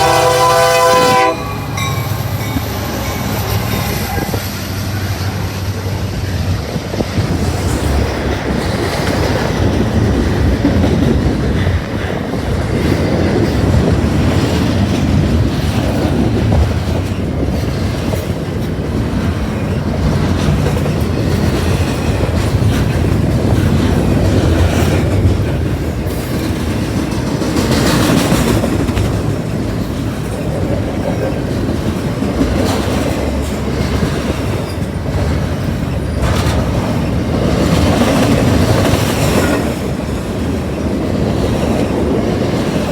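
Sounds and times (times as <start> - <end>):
train rumbling past: 0.0 - 42.9
wheels clacking over rail joints: 0.0 - 42.9.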